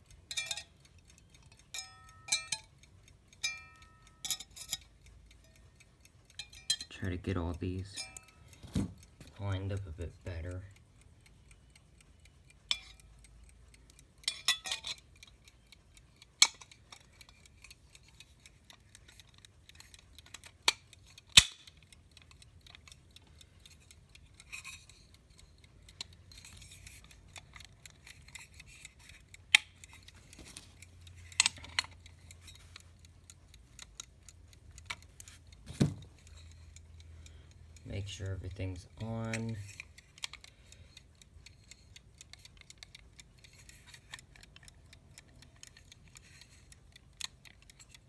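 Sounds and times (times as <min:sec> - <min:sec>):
small metallic clicks and clinks: 0:00.0 - 0:10.8, 0:11.5 - 0:48.0.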